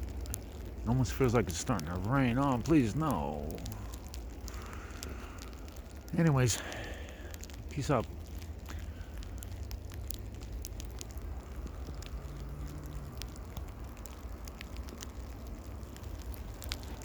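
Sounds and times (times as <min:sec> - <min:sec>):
raindrops ticking on surfaces: 0:00.0 - 0:17.0
steady low rumble: 0:00.0 - 0:17.0.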